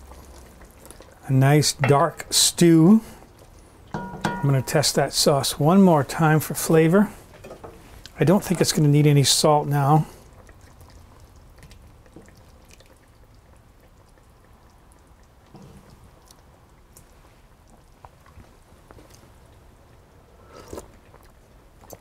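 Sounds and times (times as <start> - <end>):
sauce dripping: 0.0 - 22.0.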